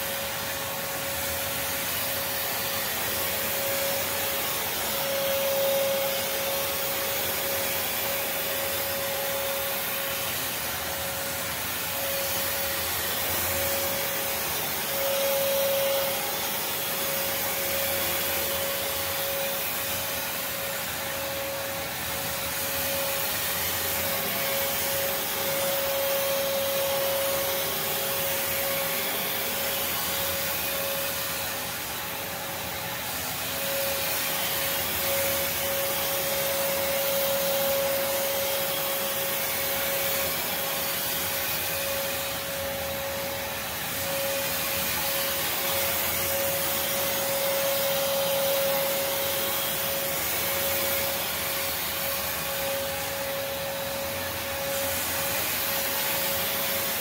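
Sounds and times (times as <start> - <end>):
backpack vacuum running: 0.0 - 57.0.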